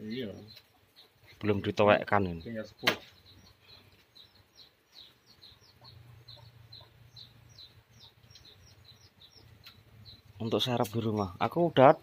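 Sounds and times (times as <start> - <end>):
high falling bird chirps: 0.0 - 12.0.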